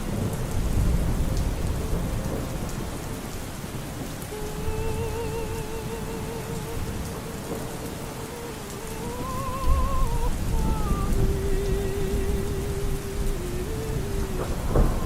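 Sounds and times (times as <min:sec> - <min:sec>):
faint opera singing: 0:00.0 - 0:03.4, 0:04.0 - 0:15.0
steady rain: 0:00.0 - 0:15.0
thunder rumbling: 0:00.0 - 0:15.0.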